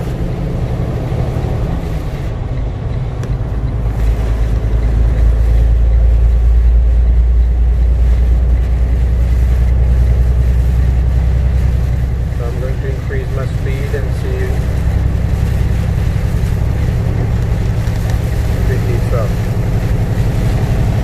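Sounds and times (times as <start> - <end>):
truck diesel engine drone: 0.0 - 21.0.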